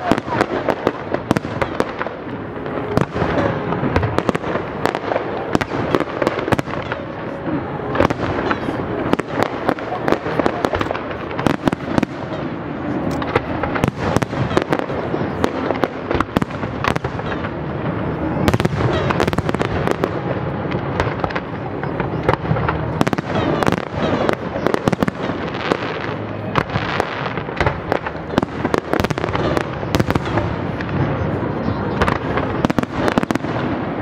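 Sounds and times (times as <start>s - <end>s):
fireworks bursting and crackling: 0.0s - 34.0s.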